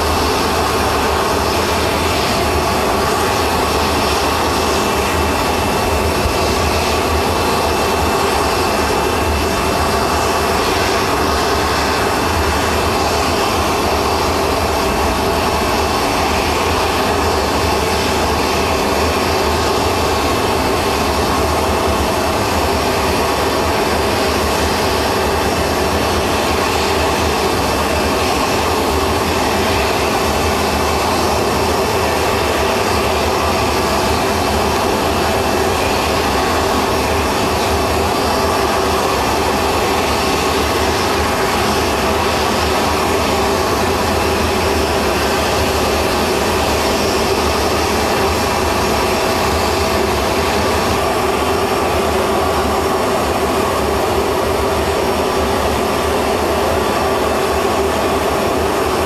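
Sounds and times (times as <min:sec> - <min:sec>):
jet turbine roaring: 0:00.0 - 0:59.0.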